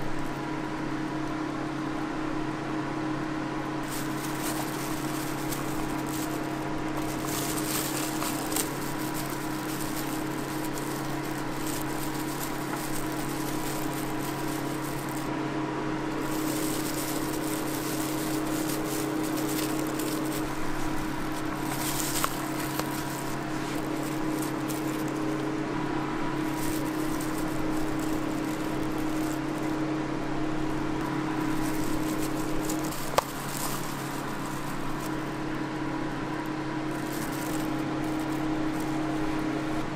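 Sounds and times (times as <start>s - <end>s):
kitchen machine hum: 0.0s - 39.9s
soft clicks and rustles: 3.8s - 15.3s, 16.1s - 29.9s, 30.6s - 35.7s, 36.4s - 39.6s.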